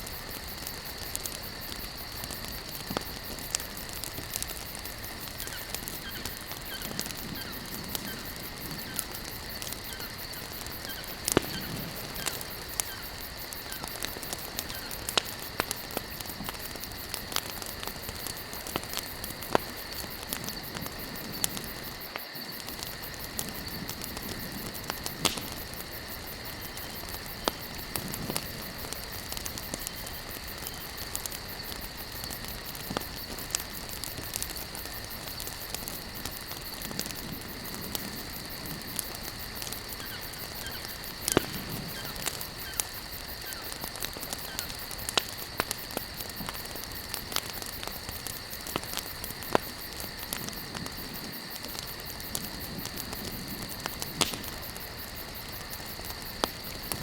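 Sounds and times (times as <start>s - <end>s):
campfire crackling and popping: 0.0s - 57.0s
low rush of flames: 0.0s - 57.0s.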